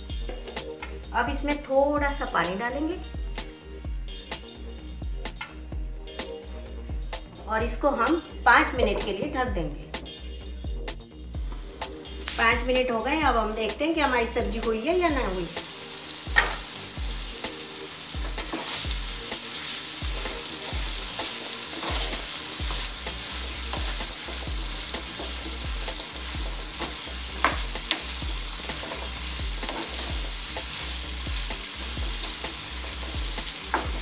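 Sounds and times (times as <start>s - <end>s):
pepper sizzling in a frying pan: 0.0s - 10.2s, 11.4s - 34.0s.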